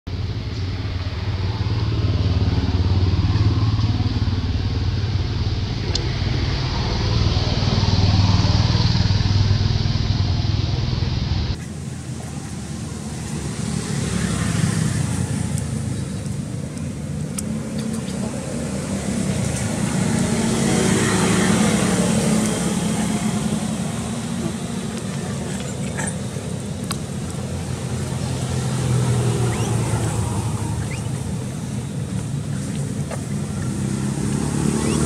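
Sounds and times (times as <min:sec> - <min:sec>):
low engine hum: 0:00.1 - 0:35.0.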